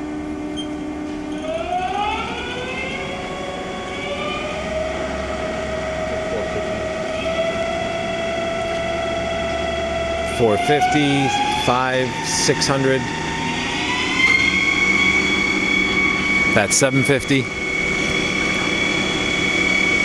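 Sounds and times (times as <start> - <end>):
lathe spindle whine rising: 0.0 - 20.0.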